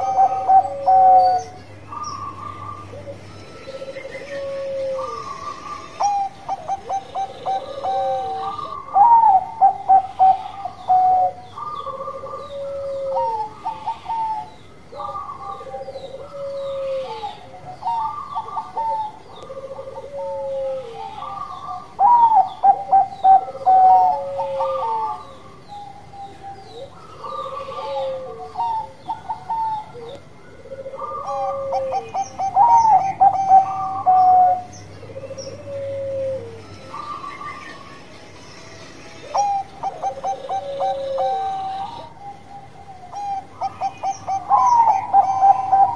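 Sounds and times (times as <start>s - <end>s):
dove cooing song: 0.0s - 45.9s.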